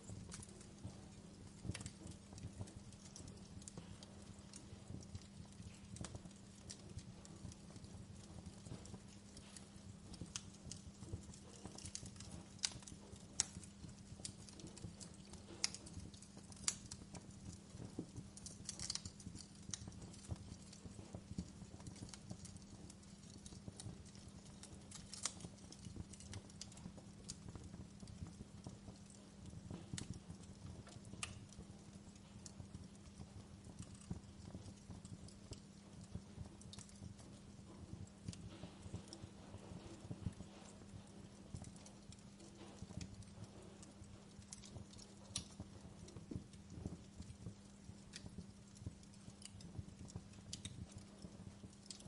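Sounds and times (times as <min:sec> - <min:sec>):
low steady hum: 0:00.0 - 0:52.0
wood fire crackling: 0:00.0 - 0:52.0.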